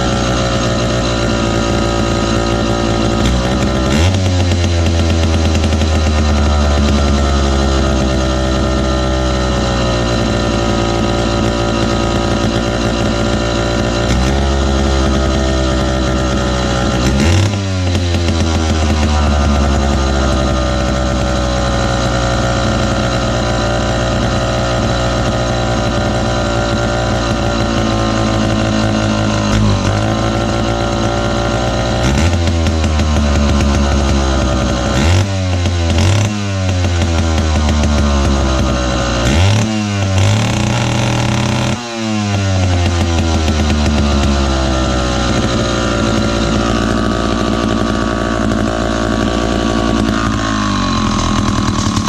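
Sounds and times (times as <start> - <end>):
chainsaw engine running: 0.0 - 52.0.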